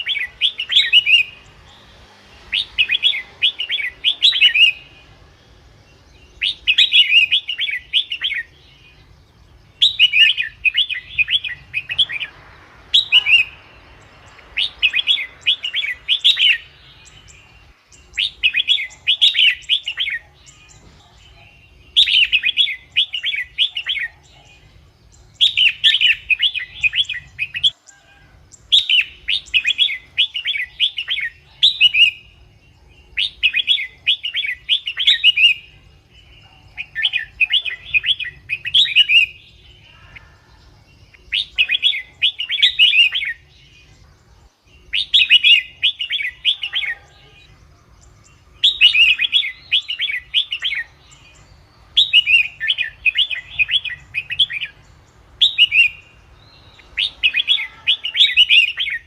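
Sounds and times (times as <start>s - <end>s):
bird warbling song: 0.0s - 59.0s.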